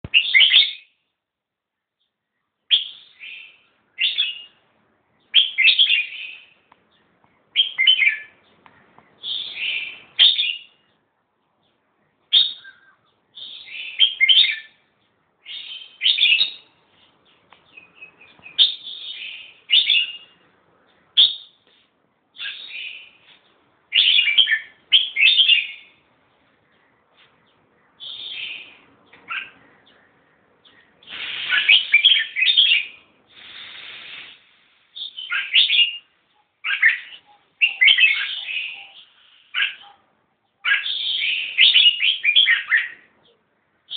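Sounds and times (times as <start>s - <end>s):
bulbul singing: 0.0s - 1.1s, 1.8s - 11.0s, 11.6s - 21.6s, 22.4s - 23.3s, 23.9s - 43.9s.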